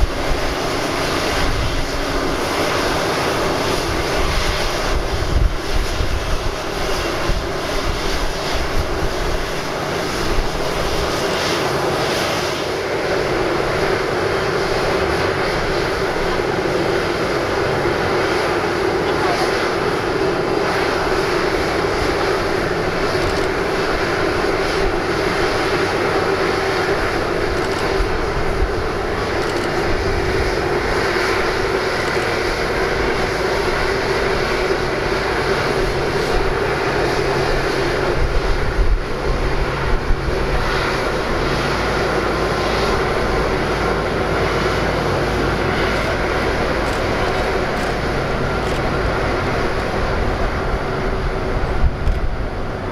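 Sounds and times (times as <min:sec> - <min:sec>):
jet airliner engine drone: 0:00.0 - 0:52.9.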